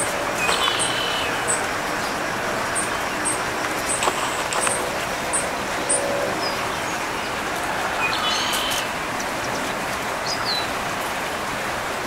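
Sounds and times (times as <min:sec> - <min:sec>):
songbirds chirping: 0:00.0 - 0:10.8.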